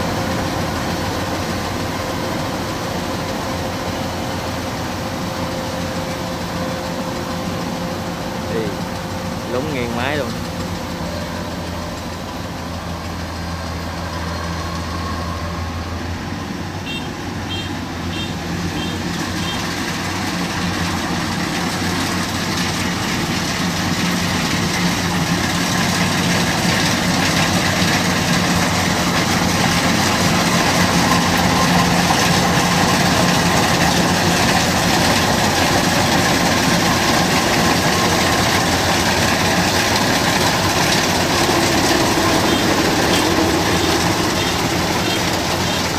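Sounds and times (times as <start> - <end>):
combine harvester running: 0.0 - 45.9.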